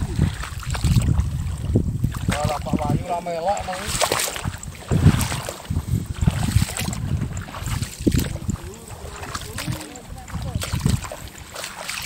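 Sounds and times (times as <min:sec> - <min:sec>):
footsteps wading through muddy water: 0:00.0 - 0:12.0.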